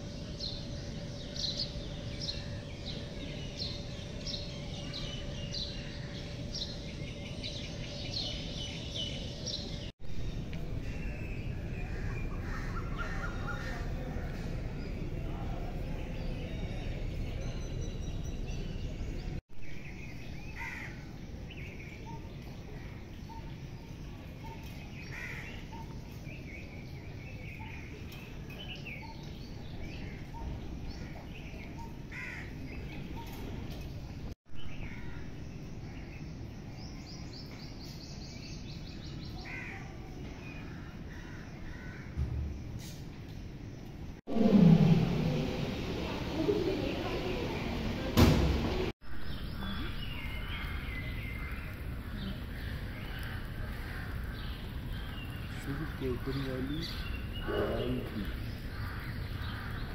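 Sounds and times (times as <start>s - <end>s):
steady background hum: 0.0s - 59.9s
wild birds chirping: 0.0s - 59.9s.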